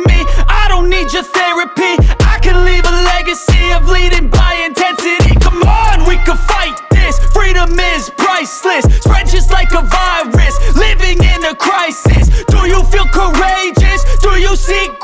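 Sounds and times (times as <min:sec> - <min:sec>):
rapping over a heavy bass beat: 0:00.0 - 0:15.0.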